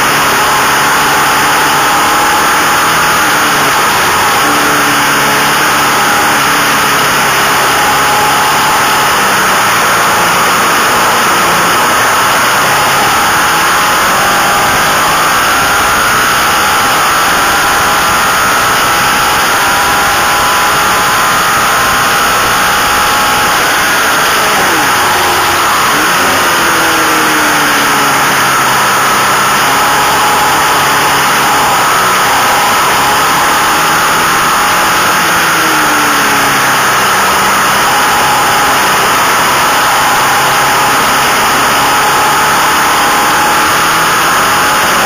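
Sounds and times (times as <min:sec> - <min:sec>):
racing motorcycle engine at high revs: 0:00.0 - 0:45.0.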